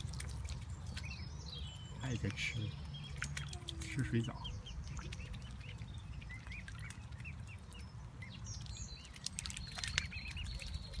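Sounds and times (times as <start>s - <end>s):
cygnets peeping: 0.0s - 11.0s.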